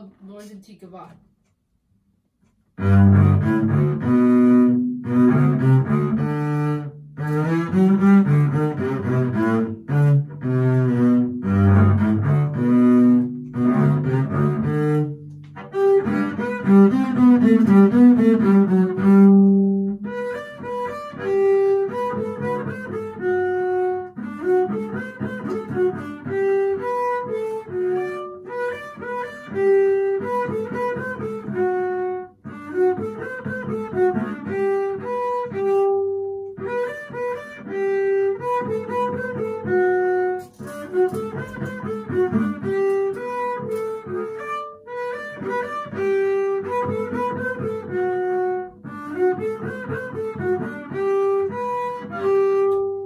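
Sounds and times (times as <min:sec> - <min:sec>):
bowed double bass: 0:02.7 - 0:53.0.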